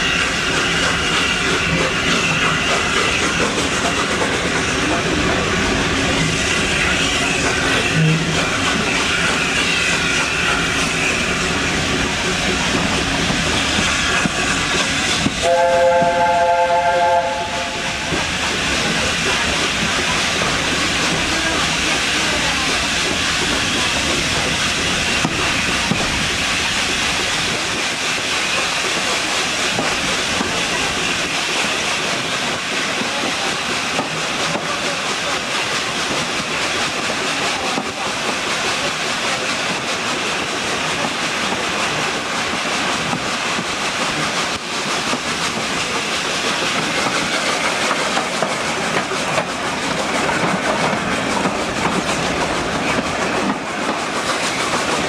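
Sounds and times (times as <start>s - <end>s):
carriages rolling on rails: 0.0s - 55.0s
hiss of steam: 0.0s - 55.0s.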